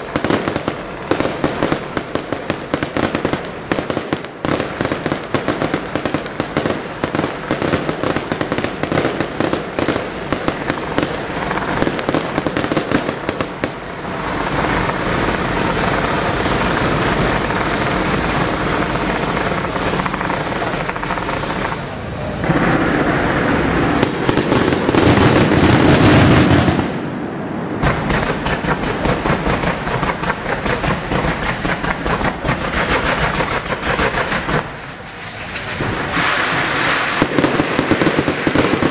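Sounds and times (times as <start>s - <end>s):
firework bangs and crackling: 0.0s - 38.9s.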